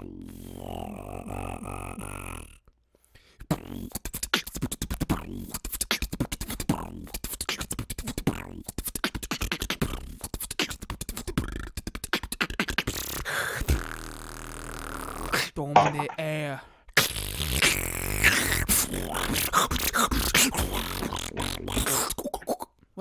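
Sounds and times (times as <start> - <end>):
pitched vocal sound: 0.0 - 2.7, 3.4 - 23.0
beatboxing: 3.4 - 16.2, 16.9 - 23.0.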